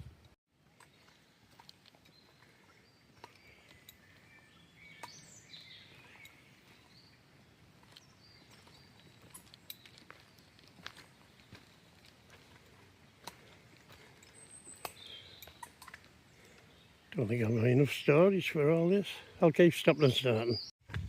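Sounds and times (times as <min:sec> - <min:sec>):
birds chirping and whistling: 0:00.9 - 0:12.0, 0:13.2 - 0:20.7.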